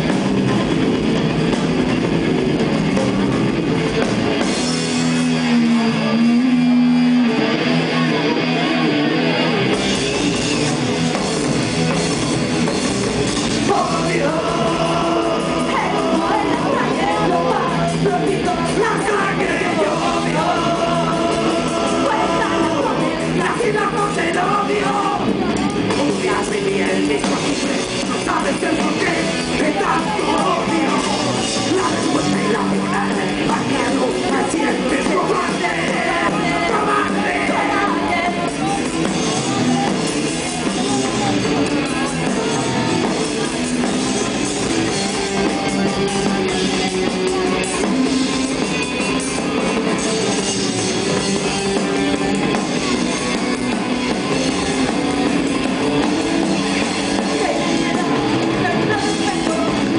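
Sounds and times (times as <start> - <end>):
live punk rock band: 0.0 - 59.9.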